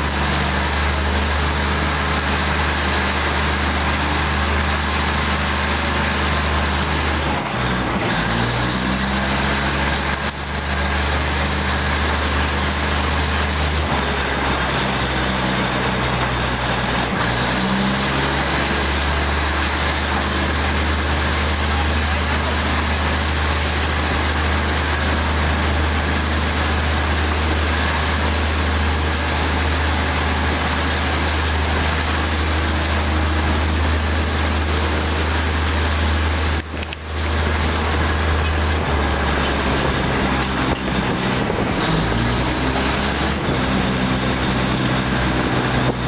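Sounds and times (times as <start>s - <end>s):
diesel train engine hum: 0.0s - 46.0s
train running noise: 0.0s - 46.0s.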